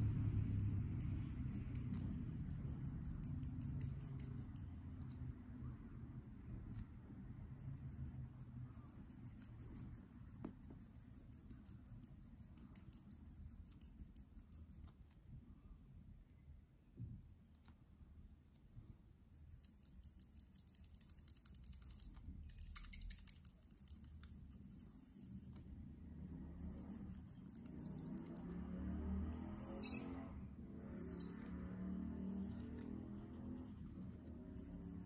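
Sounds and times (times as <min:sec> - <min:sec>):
marker nib scratching on paper: 0:00.1 - 0:15.3, 0:19.3 - 0:35.0.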